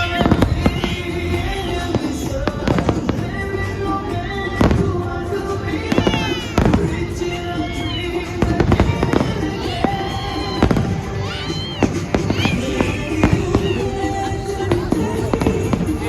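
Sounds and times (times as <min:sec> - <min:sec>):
loud music: 0:00.0 - 0:16.0.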